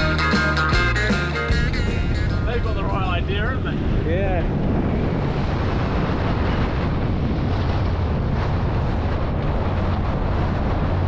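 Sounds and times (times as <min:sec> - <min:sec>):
water on hull: 0:00.0 - 0:11.0
wind buffeting microphone: 0:00.0 - 0:11.0.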